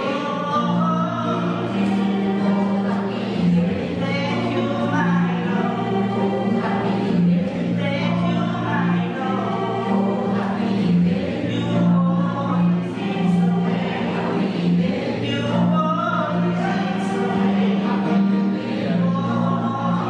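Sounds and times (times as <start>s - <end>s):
acoustic guitar: 0.0s - 20.0s
gospel choir singing: 0.0s - 20.0s.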